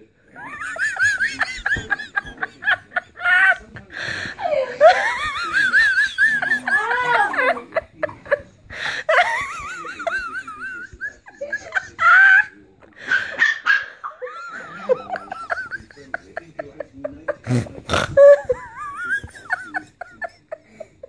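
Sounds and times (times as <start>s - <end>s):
person laughing hard: 0.4s - 13.3s, 14.5s - 21.0s.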